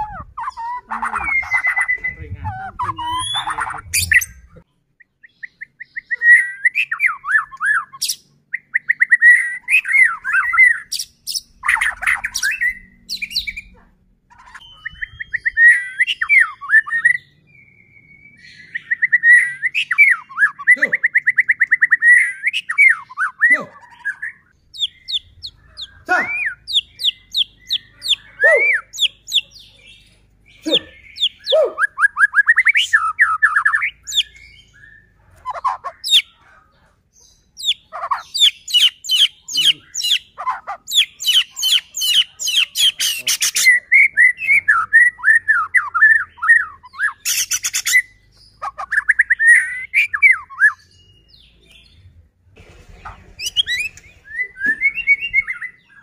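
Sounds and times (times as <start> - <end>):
songbird singing trills and whistles: 0.0 - 36.5, 37.2 - 52.1, 53.4 - 56.0.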